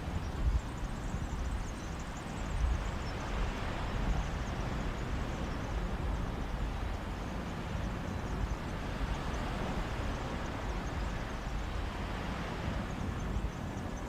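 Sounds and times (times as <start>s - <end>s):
sea waves washing on beach: 0.0s - 14.0s.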